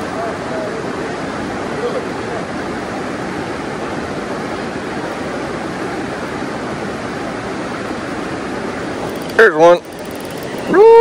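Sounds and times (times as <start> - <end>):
flowing creek water: 0.0 - 11.0.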